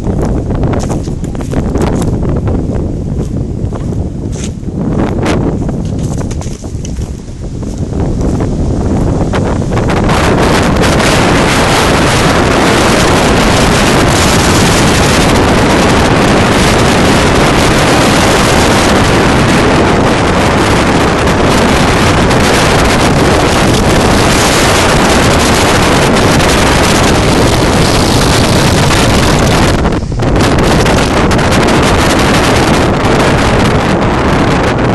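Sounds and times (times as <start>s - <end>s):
strong wind on microphone: 0.0s - 34.9s.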